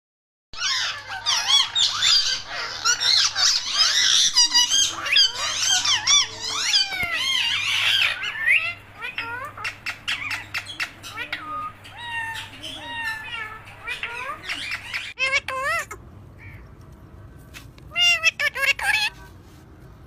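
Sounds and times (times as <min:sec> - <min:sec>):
parakeets chattering and screeching: 0:00.6 - 0:16.8, 0:17.8 - 0:19.2.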